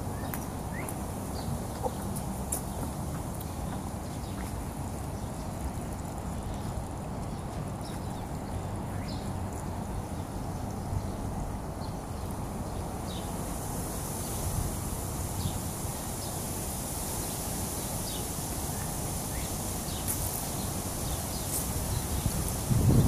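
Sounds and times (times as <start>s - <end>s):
high insect hiss: 0.0s - 23.0s
low rumble of wind: 0.0s - 23.0s.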